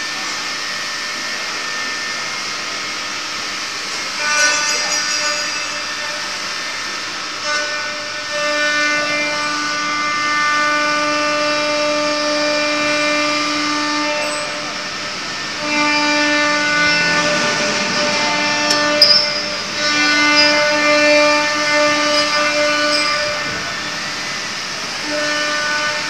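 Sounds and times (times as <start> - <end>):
wood router motor whine: 0.0 - 26.0.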